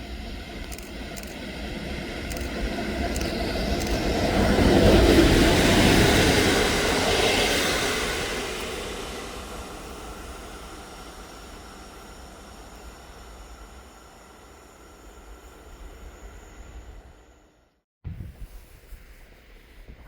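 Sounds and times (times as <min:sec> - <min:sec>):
train rolling noise: 0:00.0 - 0:17.6.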